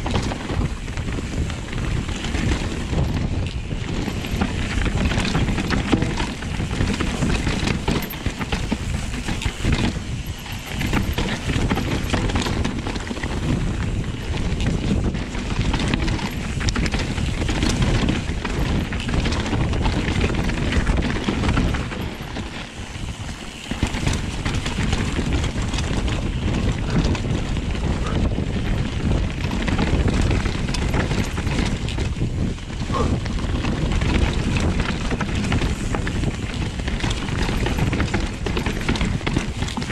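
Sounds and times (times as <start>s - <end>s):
bike rattling and knocking: 0.0s - 39.9s
tyres on loose dirt: 0.0s - 39.9s
wind rushing over microphone: 0.0s - 39.9s.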